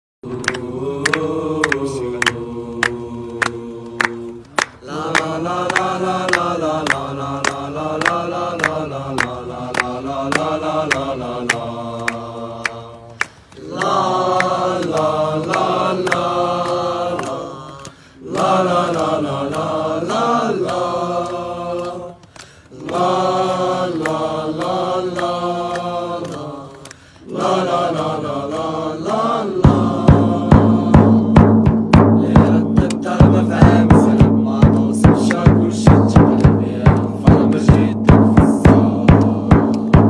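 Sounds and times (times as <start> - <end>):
person chanting a song: 0.2 - 40.0
regular clicks or claps: 0.2 - 40.0.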